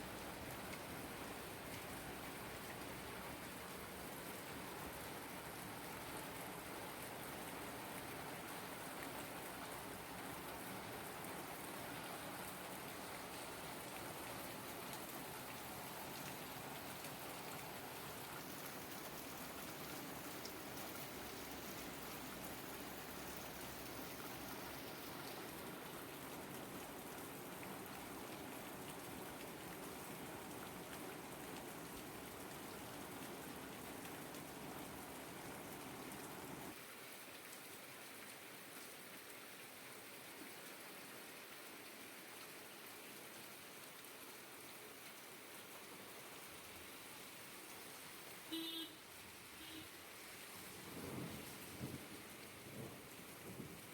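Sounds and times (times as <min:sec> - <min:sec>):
raindrops pattering on surfaces: 0:00.0 - 0:53.9.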